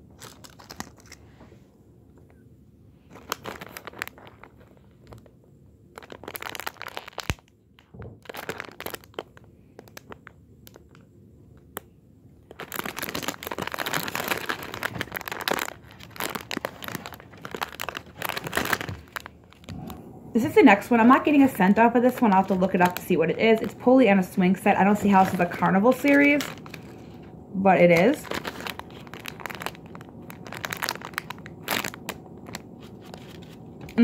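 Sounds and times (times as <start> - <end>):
plastic bag crinkling: 0.0 - 1.3, 3.0 - 34.0.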